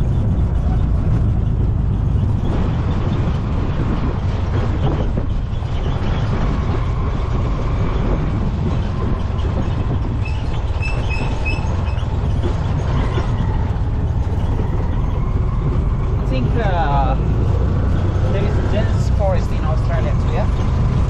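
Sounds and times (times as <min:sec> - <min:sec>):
vehicle rumbling on dirt road: 0:00.0 - 0:21.0.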